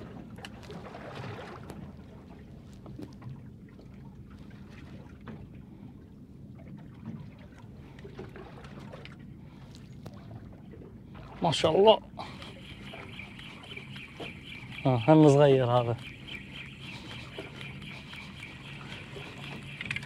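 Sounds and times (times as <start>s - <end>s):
boat engine idling: 0.0s - 20.0s
water lapping: 0.0s - 20.0s.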